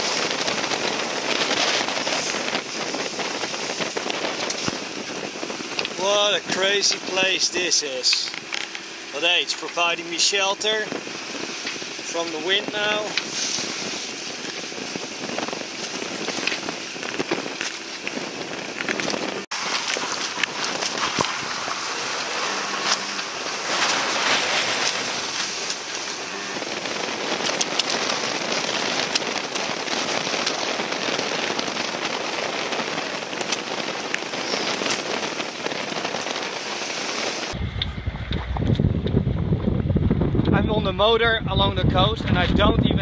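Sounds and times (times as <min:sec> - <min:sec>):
stormy wind and water hiss: 0:00.0 - 0:43.0
low rumble: 0:08.2 - 0:43.0.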